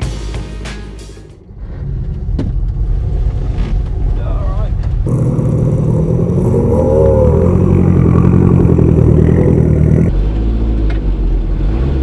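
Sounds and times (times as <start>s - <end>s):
rally car engine running: 0.0s - 12.0s.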